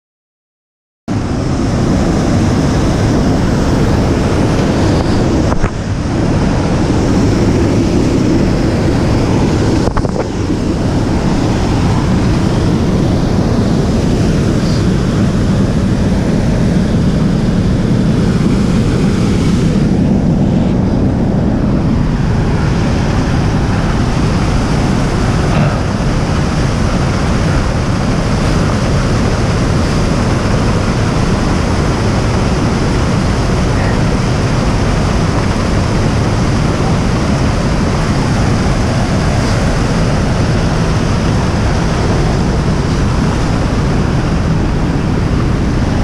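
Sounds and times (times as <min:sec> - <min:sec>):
waterfall rushing: 0:01.1 - 0:46.0
wind on microphone: 0:01.1 - 0:46.0.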